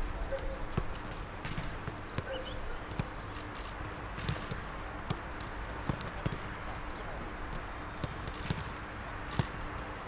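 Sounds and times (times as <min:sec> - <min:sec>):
outdoor background noise: 0:00.0 - 0:10.0
footballs being kicked: 0:00.7 - 0:06.6, 0:07.5 - 0:10.0.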